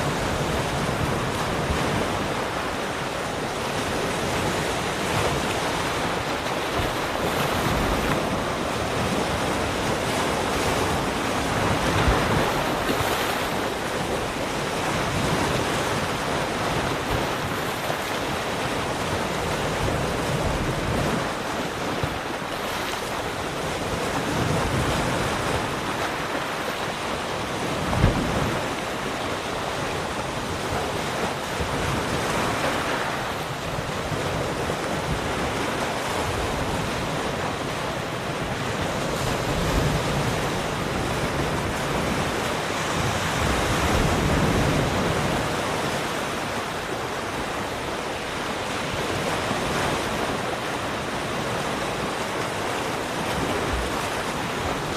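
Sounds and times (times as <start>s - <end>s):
waves breaking on shore: 0.0s - 54.9s.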